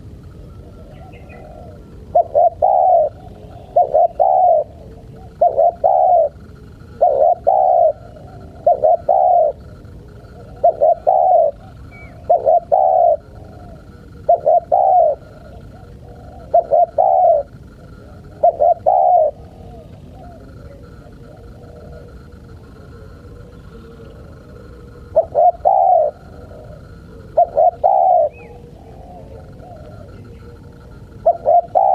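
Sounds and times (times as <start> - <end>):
dove cooing: 0.0 - 31.9.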